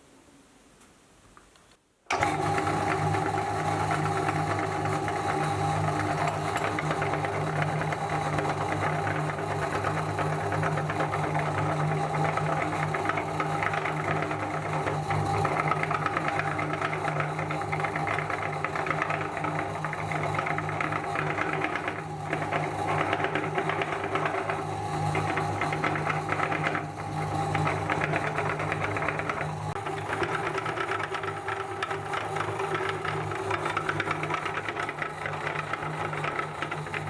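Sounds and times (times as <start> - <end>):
meat grinder motor hum: 2.1 - 37.0
fast mechanical rattle: 2.2 - 37.0.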